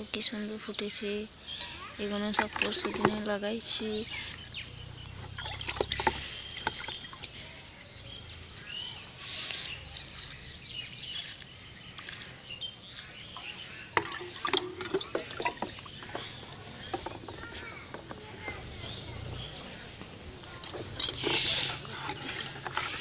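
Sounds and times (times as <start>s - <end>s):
bird chirps: 0.7s - 23.0s
water trickling onto soil: 1.6s - 23.0s.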